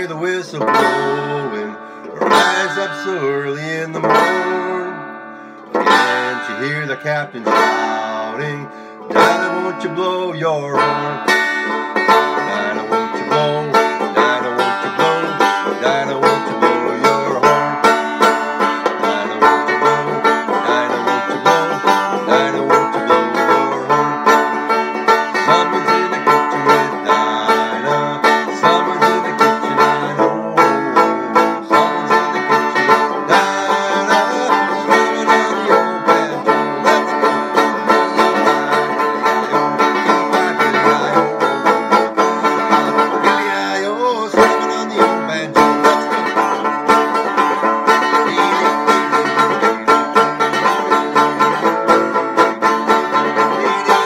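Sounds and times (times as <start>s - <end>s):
banjo strummed and picked: 0.0s - 54.0s.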